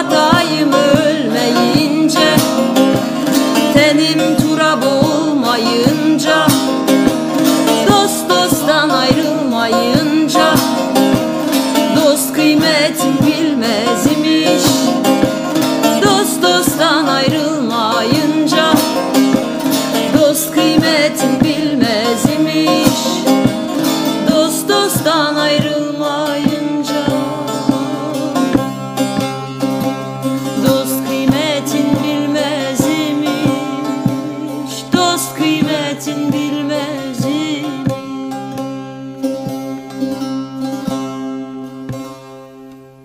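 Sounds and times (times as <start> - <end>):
plucked lutes playing folk melody: 0.0 - 43.0.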